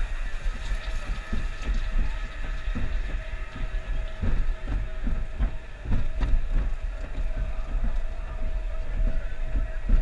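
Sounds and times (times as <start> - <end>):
roller coaster track clacking: 0.0 - 10.0.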